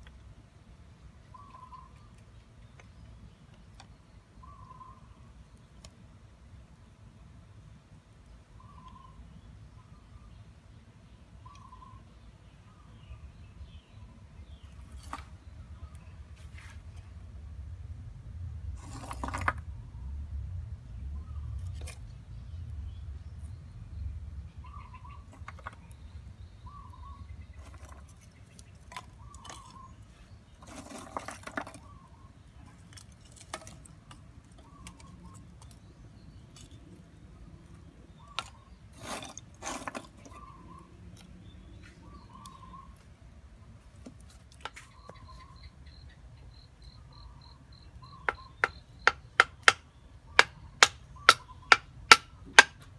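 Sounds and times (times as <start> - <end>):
bird chirping: 1.2 - 6.0, 8.3 - 16.8, 20.9 - 52.5.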